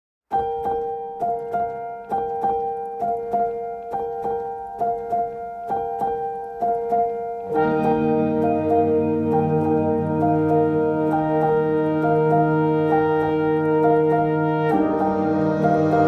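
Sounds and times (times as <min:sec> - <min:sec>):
keyboard music: 0:00.3 - 0:16.0.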